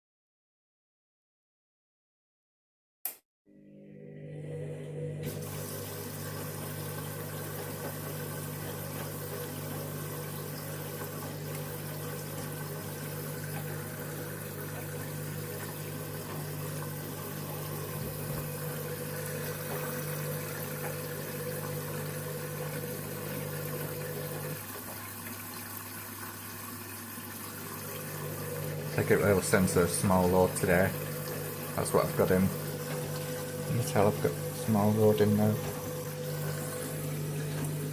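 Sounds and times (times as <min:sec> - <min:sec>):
washing machine humming: 0:03.5 - 0:37.9
water washing: 0:05.2 - 0:37.9.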